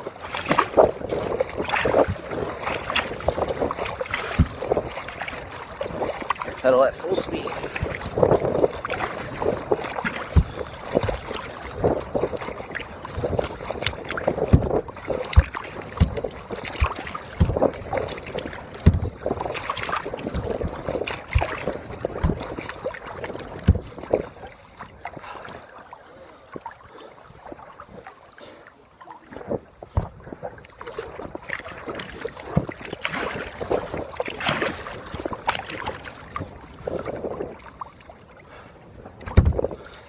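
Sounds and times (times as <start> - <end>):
paddle blades splashing: 0.0 - 40.0.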